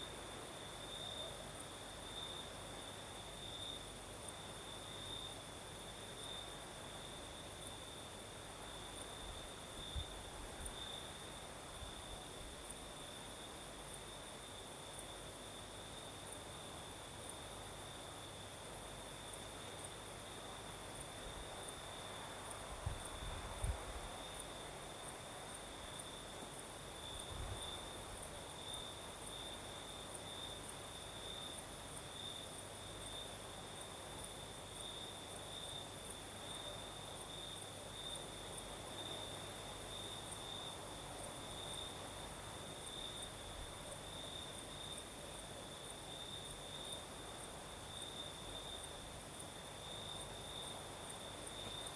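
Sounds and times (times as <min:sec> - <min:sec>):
night breeze hiss: 0:00.0 - 0:51.9
crickets trilling: 0:00.3 - 0:51.9.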